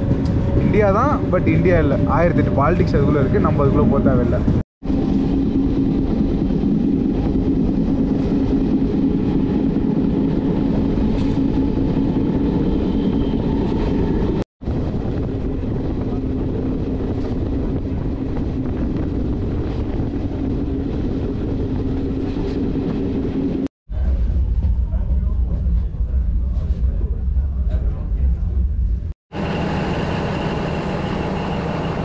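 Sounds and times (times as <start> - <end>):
wind on microphone: 0.0 - 29.1
train wheels rumbling on rail: 0.0 - 32.0.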